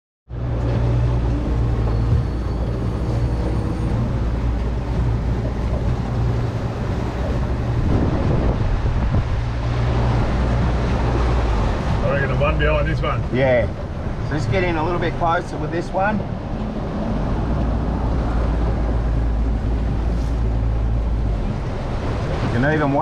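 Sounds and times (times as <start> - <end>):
boat motor running: 0.3 - 23.0
wind buffeting microphone: 0.3 - 23.0.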